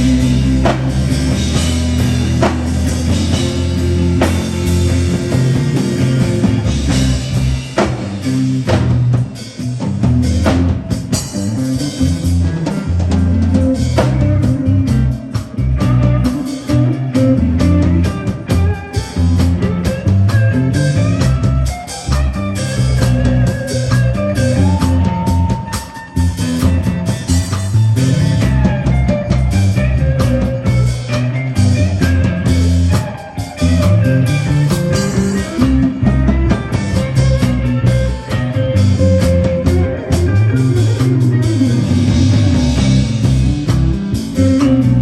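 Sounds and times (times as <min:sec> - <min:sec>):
band playing instrumental groove: 0:00.0 - 0:45.0.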